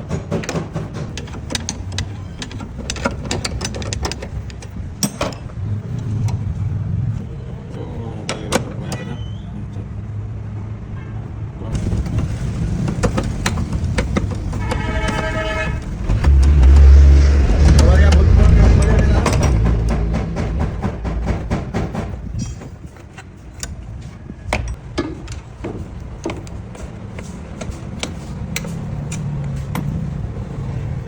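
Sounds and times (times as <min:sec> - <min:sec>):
sharp clicks and knocks: 0:00.0 - 0:06.5, 0:11.7 - 0:30.2
car engine rumbling: 0:00.9 - 0:10.9, 0:11.6 - 0:31.0.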